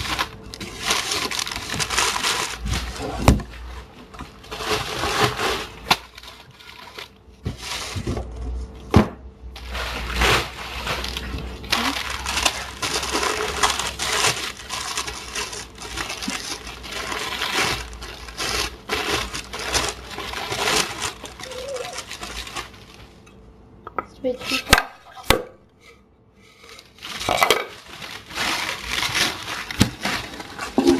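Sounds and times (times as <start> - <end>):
packaging rustling and crinkling: 0.0 - 8.8, 9.6 - 23.3, 26.6 - 30.9.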